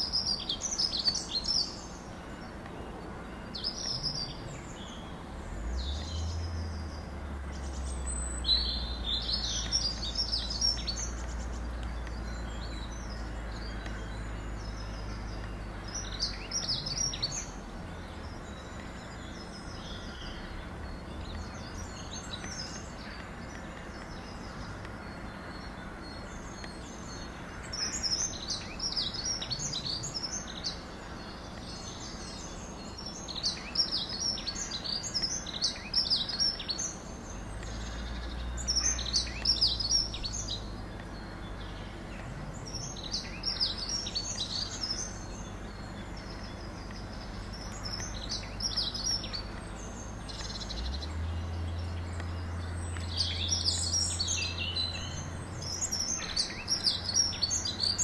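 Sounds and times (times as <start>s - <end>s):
low steady hum: 0.0s - 58.0s
songbirds singing: 0.0s - 58.0s.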